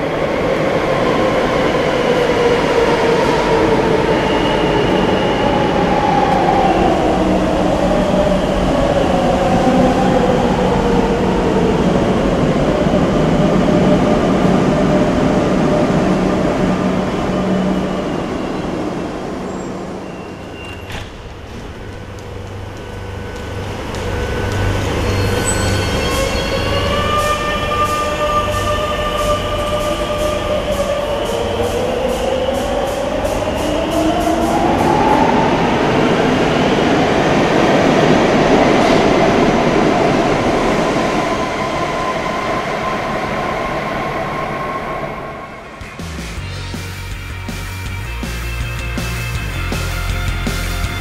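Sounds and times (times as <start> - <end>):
wheels rushing on rail: 0.0 - 46.5.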